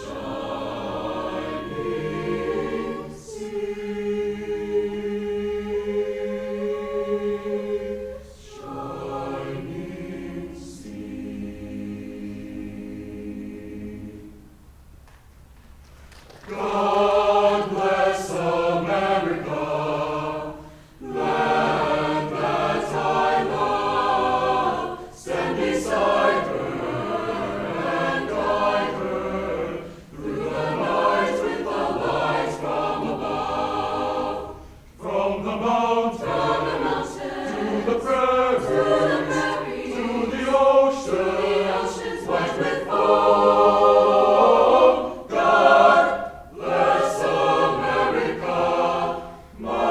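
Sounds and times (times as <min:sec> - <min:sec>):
choir singing: 0:00.0 - 0:14.6, 0:16.4 - 0:49.9.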